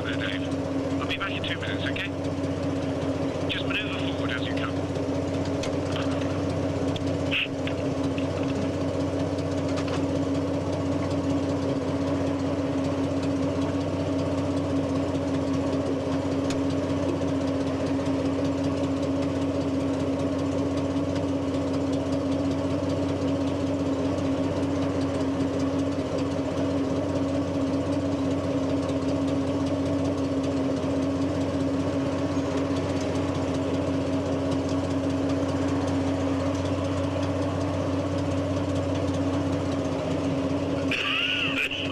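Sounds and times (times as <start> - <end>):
petrol engine idling: 0.0 - 41.9.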